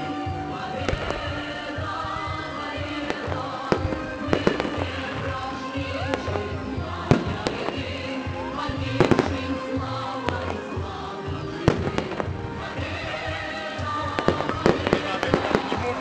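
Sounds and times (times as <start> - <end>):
music with pulsing beat: 0.0 - 16.0.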